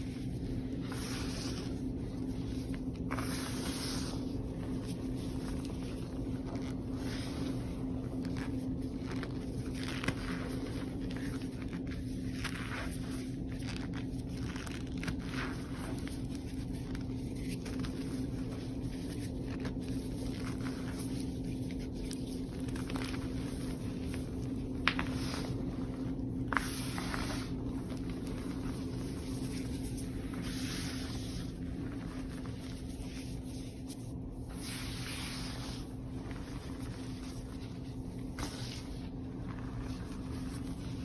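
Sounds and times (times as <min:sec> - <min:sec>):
low background hum: 0:00.0 - 0:41.0.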